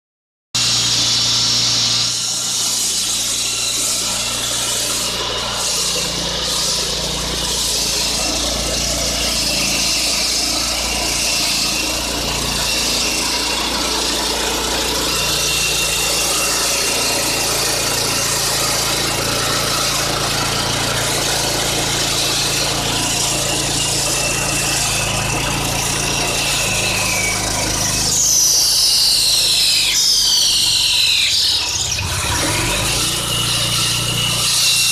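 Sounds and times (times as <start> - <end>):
concrete saw cutting: 0.6 - 34.9
high squealing tones: 0.6 - 34.9.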